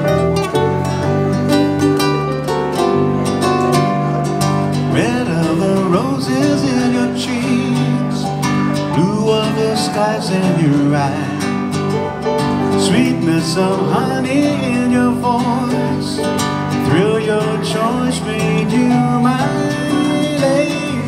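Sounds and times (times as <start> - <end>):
acoustic guitar arpeggios: 0.0 - 21.0
electric keyboard: 0.0 - 21.0.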